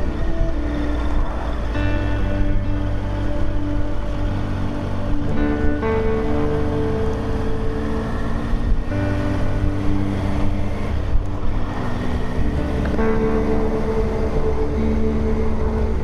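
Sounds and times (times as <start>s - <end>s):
background music chords: 0.0s - 16.0s
motorcycle engine: 0.0s - 16.0s
wind rush: 0.0s - 16.0s.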